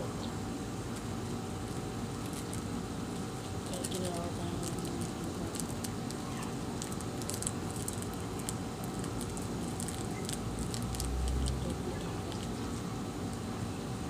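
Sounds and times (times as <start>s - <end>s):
steady background hum: 0.0s - 14.0s
slime clicks and crackles: 2.2s - 13.5s.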